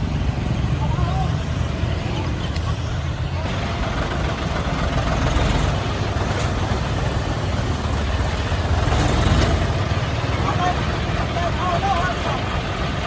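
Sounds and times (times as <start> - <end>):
heavy machine engine rumbling: 0.0 - 13.0.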